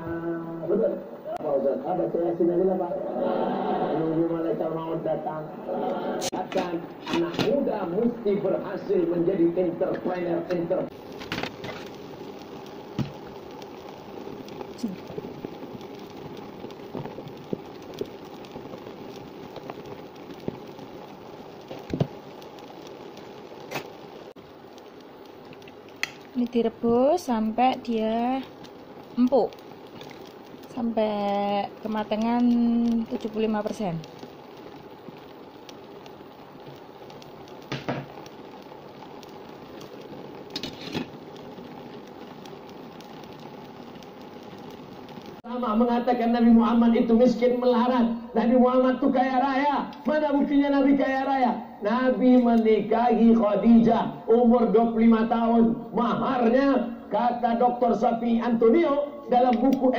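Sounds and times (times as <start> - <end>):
steady hiss: 0.0 - 59.9
water boiling in a pot: 0.0 - 59.9.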